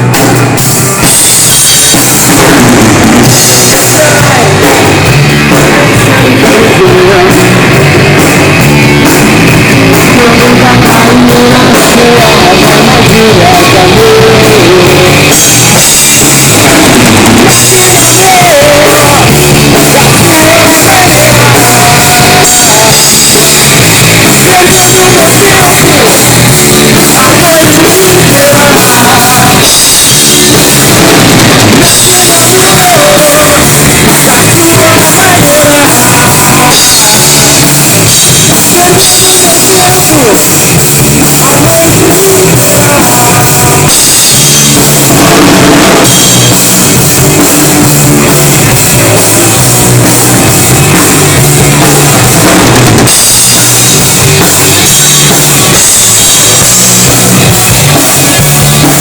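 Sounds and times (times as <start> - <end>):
drum kit: 0.0 - 59.0
rock band playing: 0.0 - 59.0.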